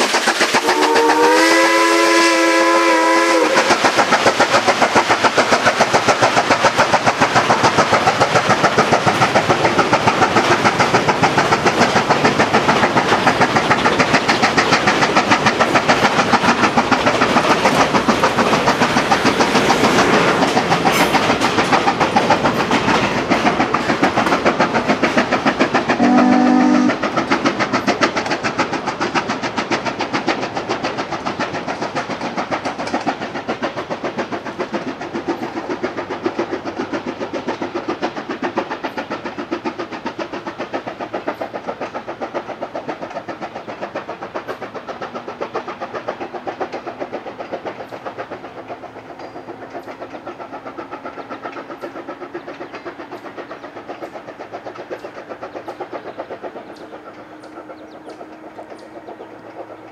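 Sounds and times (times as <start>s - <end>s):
train running rhythmically: 0.0s - 59.9s.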